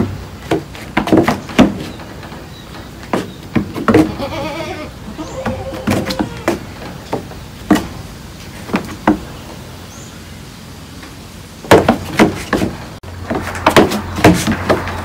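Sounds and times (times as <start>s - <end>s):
hooves knocking on wooden planks: 0.0s - 9.7s, 11.0s - 15.0s.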